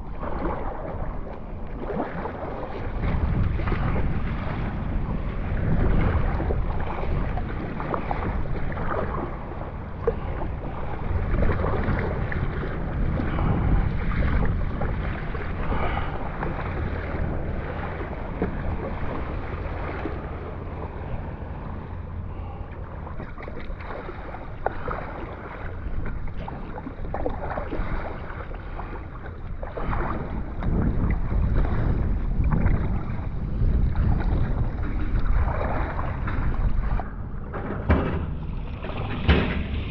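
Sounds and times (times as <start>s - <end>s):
paddle strokes splashing: 0.0s - 39.9s
water sloshing at hull: 0.0s - 39.9s
wind on microphone: 0.0s - 39.9s.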